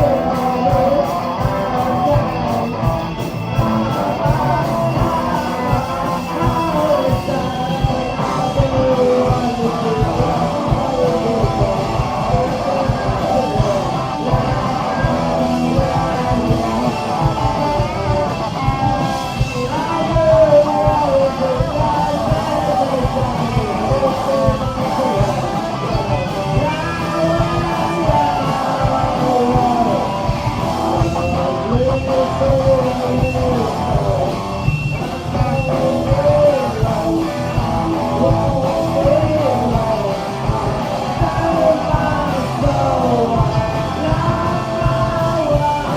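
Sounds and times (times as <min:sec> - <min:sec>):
live rock band playing: 0:00.0 - 0:45.9
person singing: 0:00.0 - 0:45.9.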